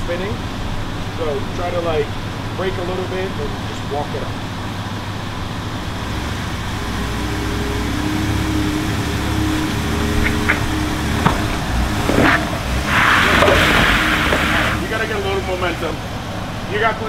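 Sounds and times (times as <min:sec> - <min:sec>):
off-road vehicle engine pulling: 0:00.0 - 0:17.0.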